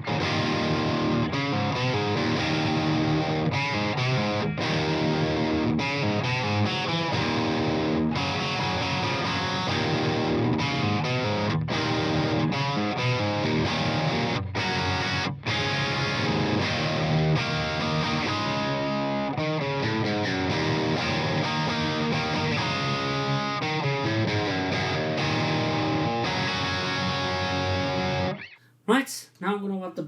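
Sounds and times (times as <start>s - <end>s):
overdriven electric guitar: 0.0s - 28.6s.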